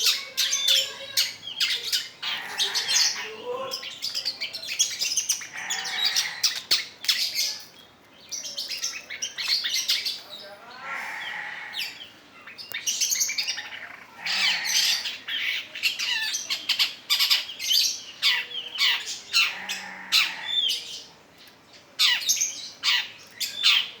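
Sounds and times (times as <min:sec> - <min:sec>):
bird song with harsh squawks: 0:00.0 - 0:24.0.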